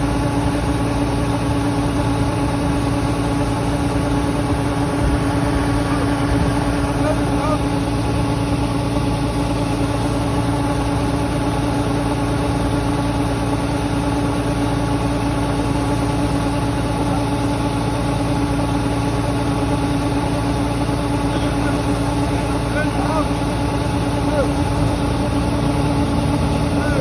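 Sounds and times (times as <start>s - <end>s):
harvester engine droning: 0.0s - 27.0s.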